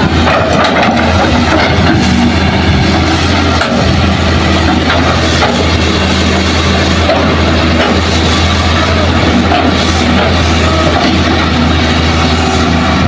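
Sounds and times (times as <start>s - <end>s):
diesel engines humming: 0.0s - 13.0s.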